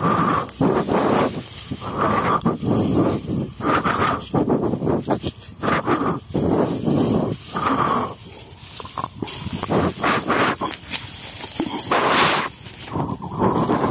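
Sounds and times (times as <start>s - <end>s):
dry straw rustling and crunching: 0.0s - 13.9s.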